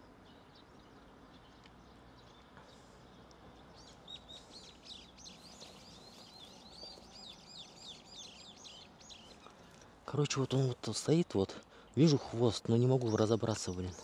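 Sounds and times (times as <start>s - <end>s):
small birds twittering: 0.0s - 14.0s.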